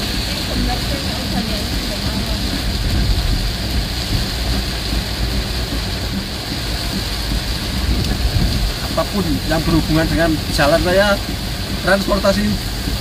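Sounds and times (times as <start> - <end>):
heavy rain on vehicle: 0.0 - 13.0
vehicle rumbling on wet road: 0.0 - 13.0.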